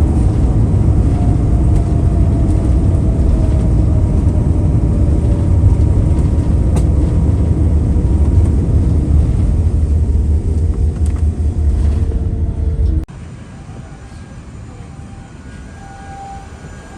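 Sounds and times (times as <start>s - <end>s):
moving vehicle rumble: 0.0s - 16.9s.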